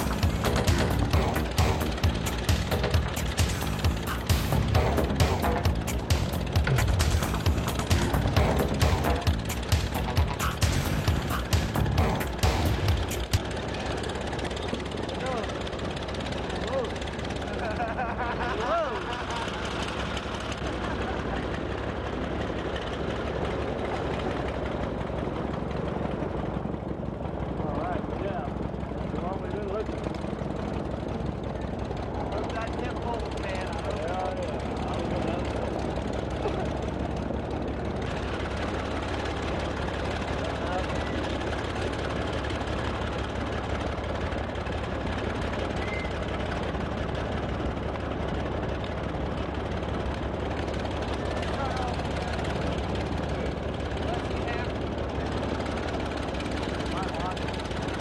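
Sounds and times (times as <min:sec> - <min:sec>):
boat engine rumbling: 0:00.0 - 0:58.0.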